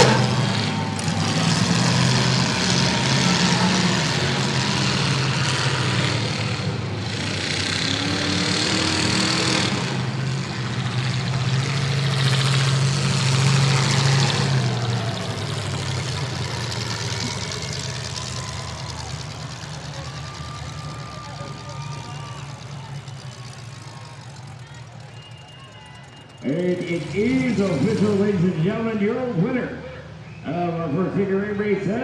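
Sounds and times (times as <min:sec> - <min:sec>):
car engines idling: 0:00.0 - 0:32.0.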